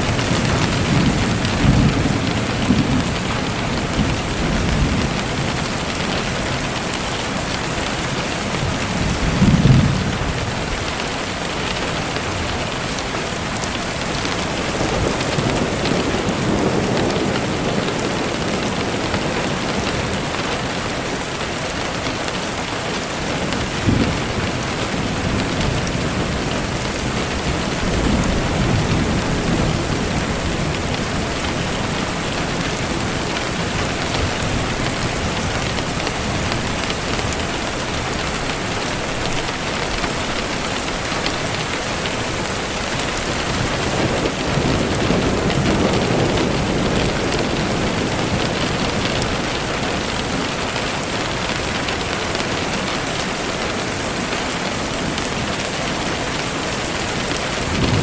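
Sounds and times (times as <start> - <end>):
low thunder rumbles: 0.0 - 11.0, 12.3 - 20.5, 23.5 - 41.0, 41.6 - 51.6, 56.9 - 58.0
steady rain: 0.0 - 58.0.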